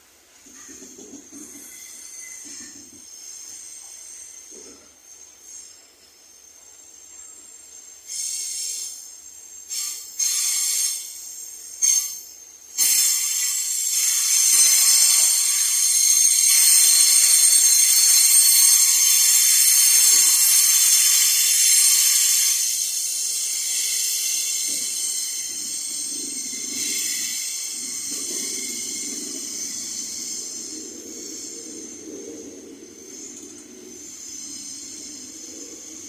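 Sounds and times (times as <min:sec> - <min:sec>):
train screeching: 0:00.4 - 0:36.0.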